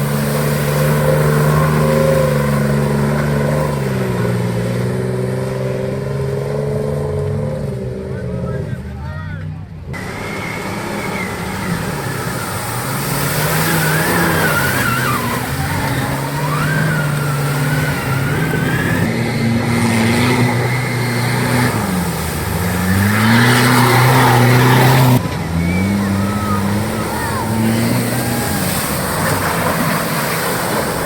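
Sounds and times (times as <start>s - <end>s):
off-road engine revving hard: 0.0s - 9.2s, 9.8s - 31.0s.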